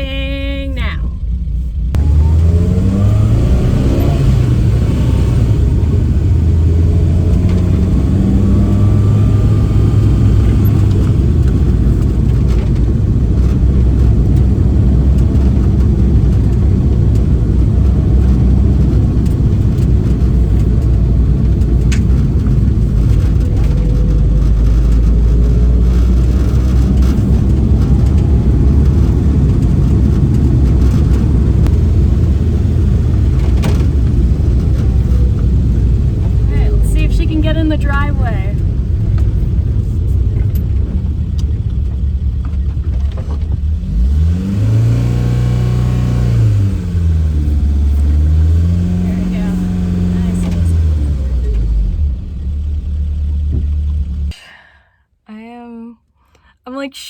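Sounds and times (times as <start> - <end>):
car engine running: 0.0 - 54.4
road noise: 0.0 - 54.4.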